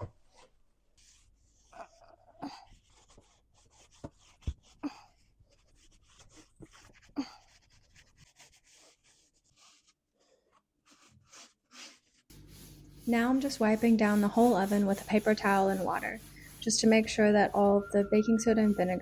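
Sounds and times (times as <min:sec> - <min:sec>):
paper towel rubbing: 0:02.7 - 0:04.8, 0:05.4 - 0:19.0.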